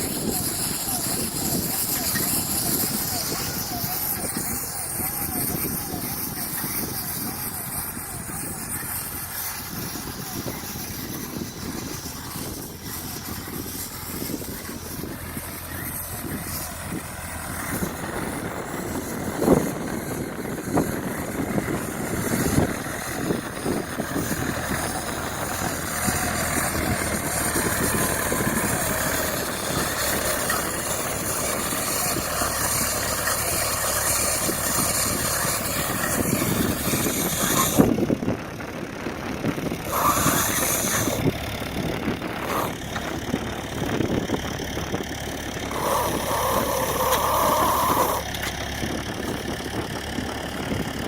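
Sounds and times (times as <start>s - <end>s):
tractor engine running: 0.0s - 51.0s.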